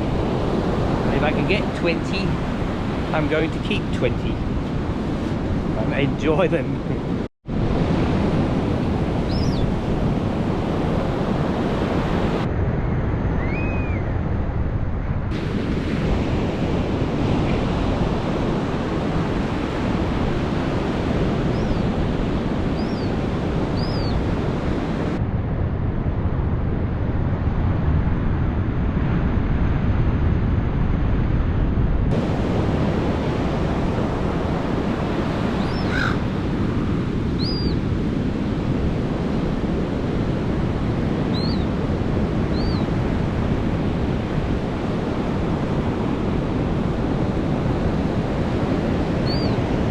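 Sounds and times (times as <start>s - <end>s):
ocean waves breaking: 0.0s - 12.5s, 15.3s - 25.2s, 32.1s - 49.9s.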